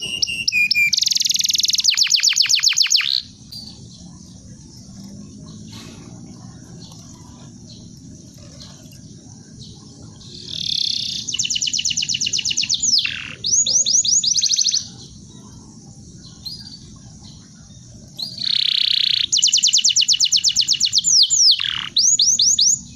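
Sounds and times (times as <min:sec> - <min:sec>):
canary singing: 0:00.0 - 0:22.9.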